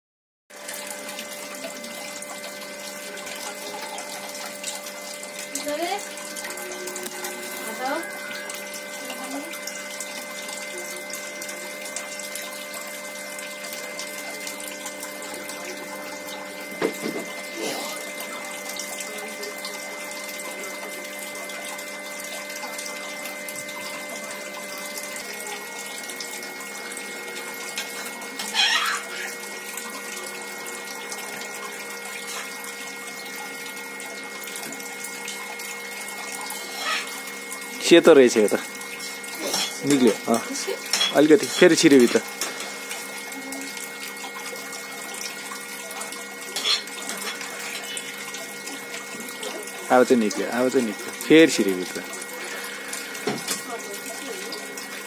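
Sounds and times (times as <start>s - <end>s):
incubator humming over hiss: 0.6s - 55.0s.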